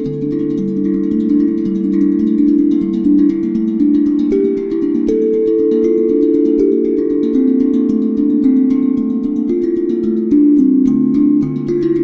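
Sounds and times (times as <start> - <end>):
fast steady ticking: 0.0 - 12.0
steel tongue drum notes: 0.0 - 12.0.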